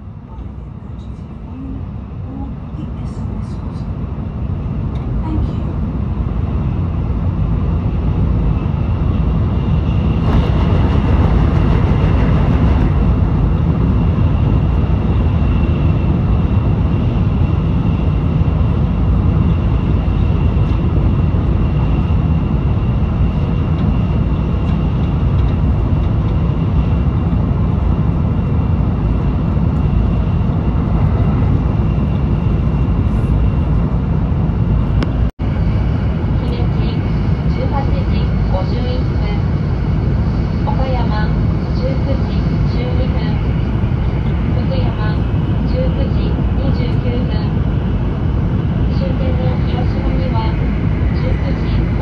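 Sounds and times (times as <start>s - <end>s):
deep train rumble: 0.0s - 52.0s.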